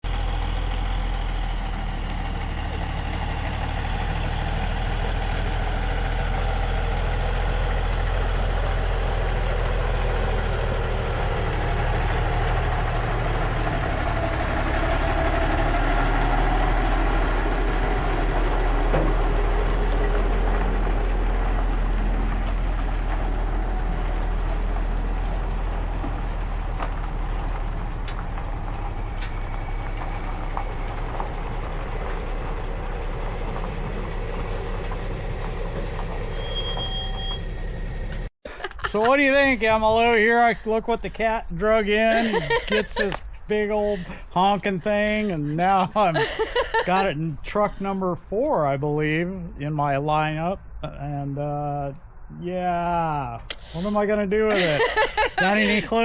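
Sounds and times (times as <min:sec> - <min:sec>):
truck engine running: 0:00.0 - 0:52.2, 0:52.9 - 0:56.0.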